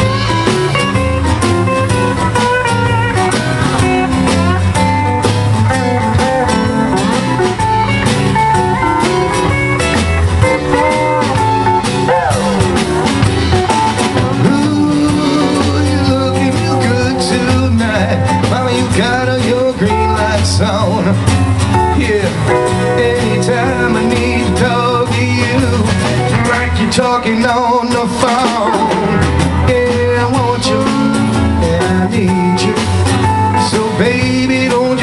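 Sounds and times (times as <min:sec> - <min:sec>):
steel guitar sliding notes: 0:00.0 - 0:34.8
bass guitar: 0:00.0 - 0:35.0
drum kit: 0:00.0 - 0:35.0
electric guitar: 0:00.0 - 0:35.0.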